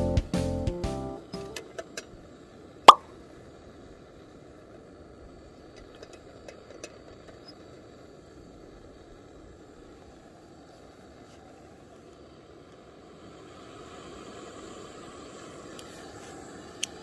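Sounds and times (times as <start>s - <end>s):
gas stove burning: 0.0s - 17.0s.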